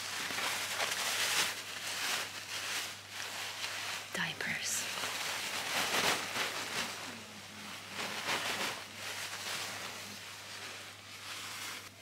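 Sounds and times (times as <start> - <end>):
plastic sheet crinkling and rustling: 0.0 - 12.0.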